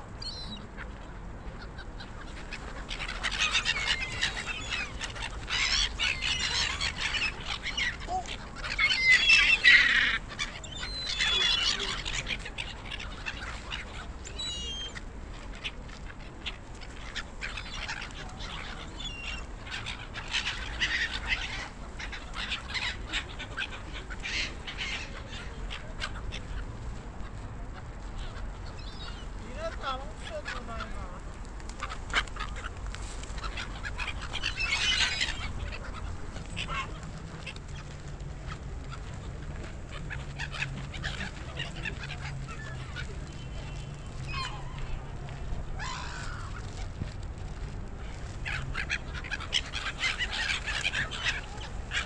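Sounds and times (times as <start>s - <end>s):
gulls calling: 0.2s - 26.7s, 27.3s - 47.2s, 47.9s - 52.0s.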